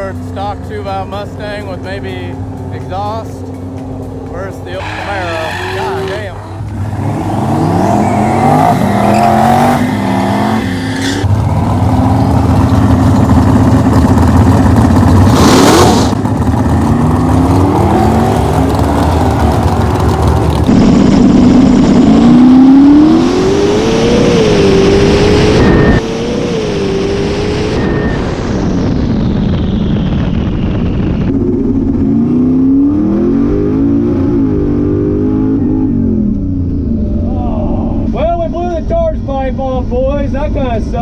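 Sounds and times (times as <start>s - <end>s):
car engine accelerating hard: 0.0s - 29.3s, 29.9s - 38.1s.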